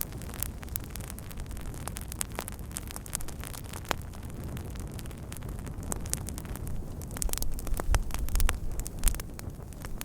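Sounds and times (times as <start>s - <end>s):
low rumble of burning: 0.0s - 10.0s
wood fire crackling and popping: 0.0s - 10.0s.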